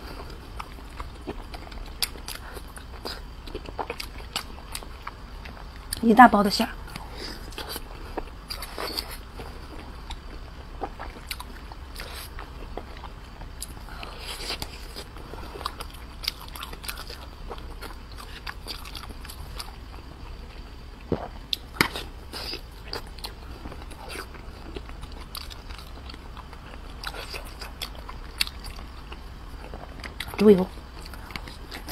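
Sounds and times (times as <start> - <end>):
close chewing with wet mouth clicks: 0.2 - 6.0, 6.9 - 31.9.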